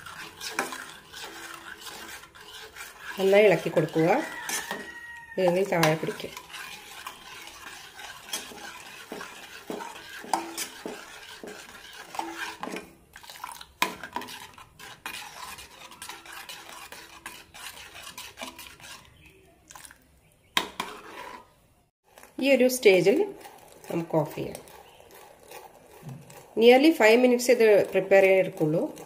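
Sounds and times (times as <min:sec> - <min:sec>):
ladle clinking and scraping saucepan: 0:00.0 - 0:19.9, 0:20.6 - 0:21.6, 0:22.8 - 0:29.0
milk simmering: 0:00.0 - 0:29.0.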